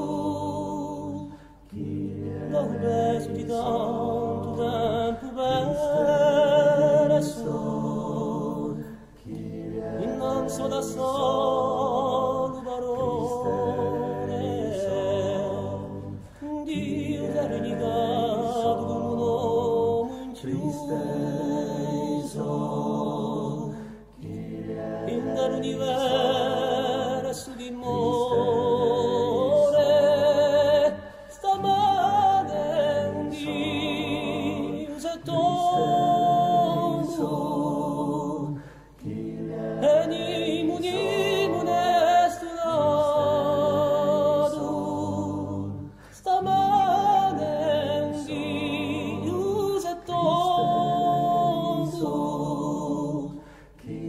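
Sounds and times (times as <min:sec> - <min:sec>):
men's voices singing a cappella: 0:00.0 - 0:54.0.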